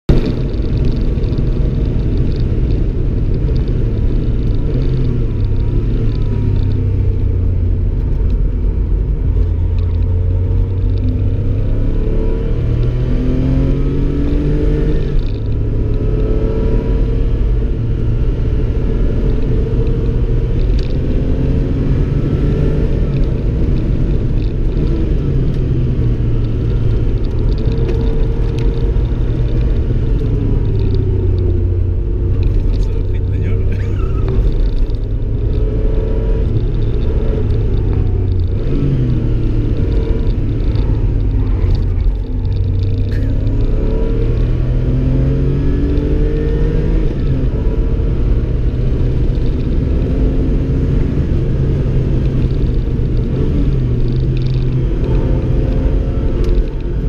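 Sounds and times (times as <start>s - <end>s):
road noise: 0.0s - 57.0s
car engine accelerating: 0.1s - 57.0s.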